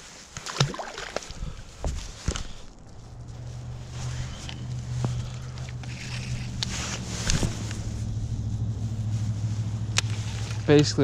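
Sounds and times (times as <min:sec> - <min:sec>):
steady low hum: 0:01.3 - 0:11.0.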